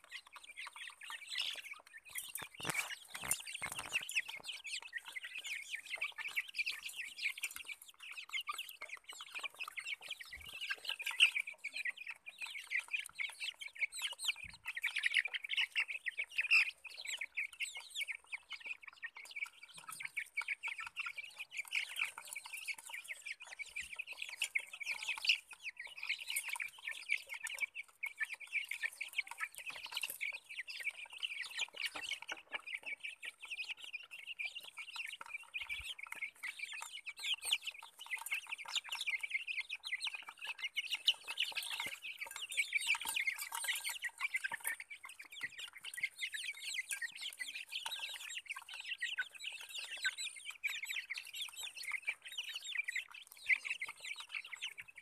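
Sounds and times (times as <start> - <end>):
chicks peeping and clucking: 0.0 - 55.0.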